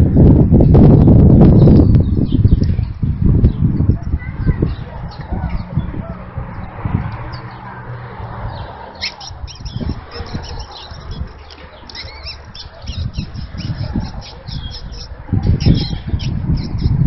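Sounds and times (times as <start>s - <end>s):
birds chirping and squawking: 0.7s - 17.0s.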